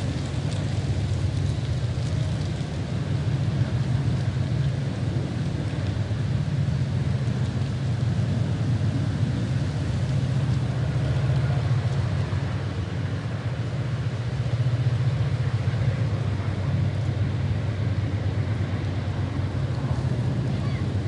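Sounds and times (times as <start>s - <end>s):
low rumble: 0.0s - 21.0s
rustling leaves: 0.0s - 21.0s
wind: 0.0s - 21.0s.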